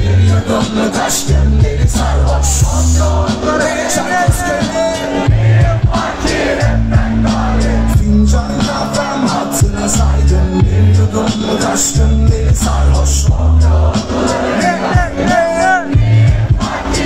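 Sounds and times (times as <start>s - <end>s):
hip-hop beat with heavy bass: 0.0s - 17.0s
voices singing: 0.0s - 17.0s.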